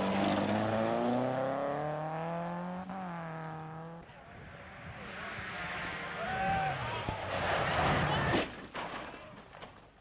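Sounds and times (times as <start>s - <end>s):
vehicle engine accelerating: 0.0s - 8.2s.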